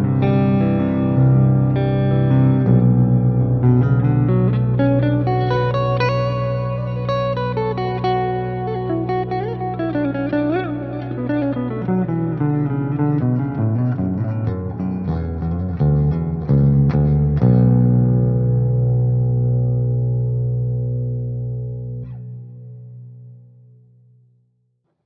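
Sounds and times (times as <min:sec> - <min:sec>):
clean electric guitar notes: 0:00.0 - 0:24.3.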